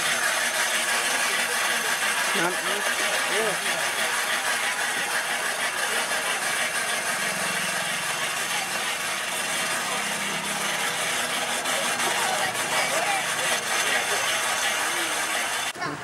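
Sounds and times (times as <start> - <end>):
distant voices: 0.0 - 16.0
engine running with low hum: 0.0 - 16.0.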